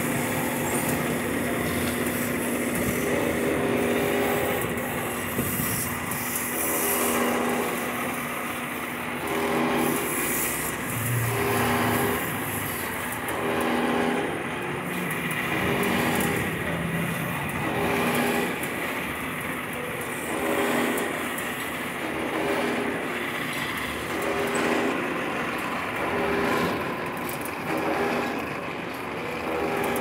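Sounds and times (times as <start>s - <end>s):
wood lathe humming: 0.0s - 30.0s.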